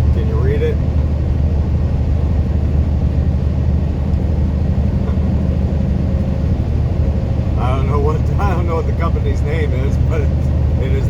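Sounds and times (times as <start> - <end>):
road rumble: 0.0 - 11.0
truck engine drone: 0.0 - 11.0.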